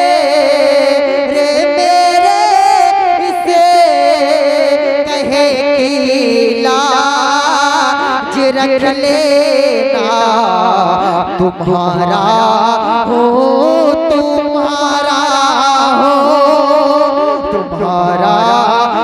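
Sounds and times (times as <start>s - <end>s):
man singing through microphone: 0.0s - 19.0s.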